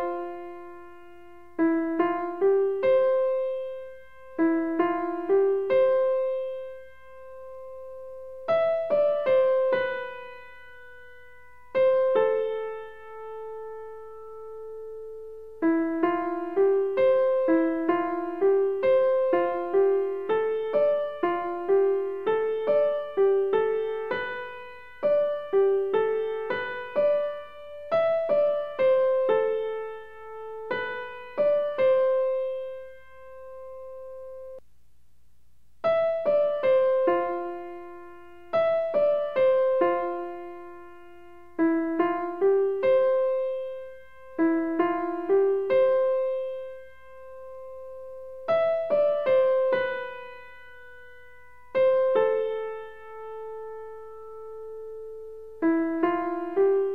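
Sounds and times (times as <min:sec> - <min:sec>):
slow piano melody: 0:00.0 - 0:34.6, 0:35.8 - 0:56.9.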